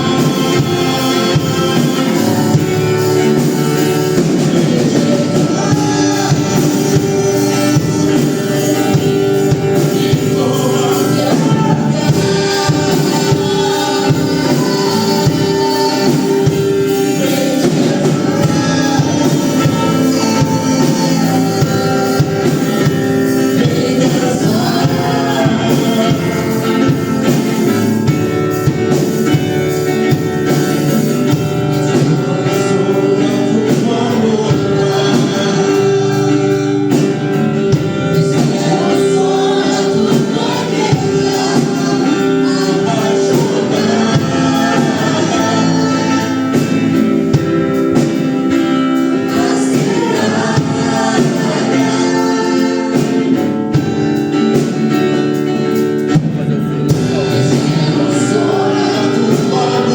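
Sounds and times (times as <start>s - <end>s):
instrumental accompaniment: 0.0s - 59.9s
people singing worship song: 0.0s - 59.9s.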